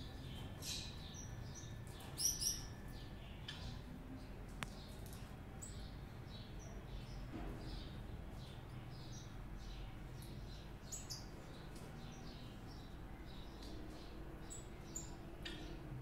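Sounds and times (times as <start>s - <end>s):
cage birds chirping: 0.0s - 16.0s.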